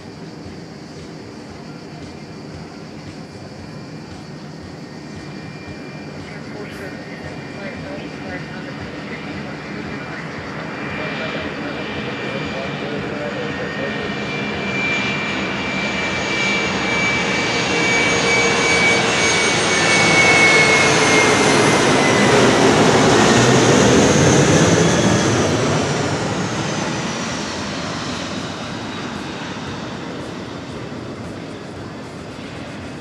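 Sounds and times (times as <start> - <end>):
jet engines whining passing: 0.0 - 33.0.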